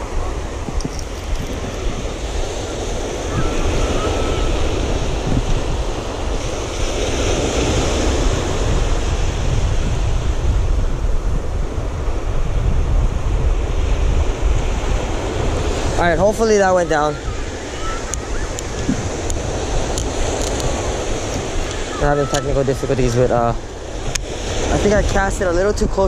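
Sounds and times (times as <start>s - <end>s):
ocean surf washing: 0.0s - 26.0s
wind buffeting microphone: 0.0s - 26.0s.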